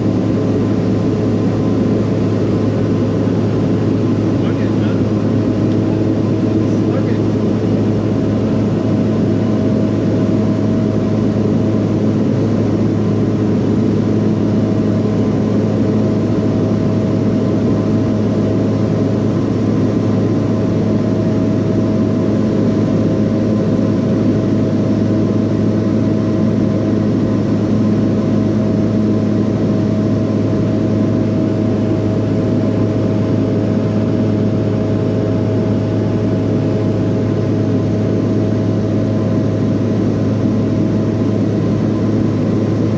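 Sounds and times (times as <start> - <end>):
engine drone: 0.0 - 42.9.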